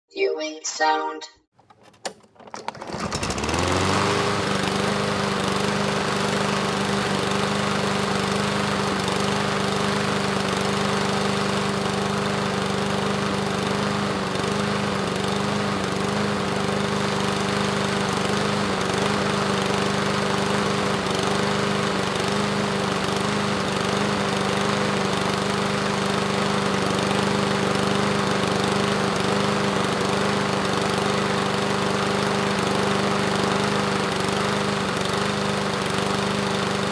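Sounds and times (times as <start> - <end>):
lawn mower engine running: 1.8 - 36.9.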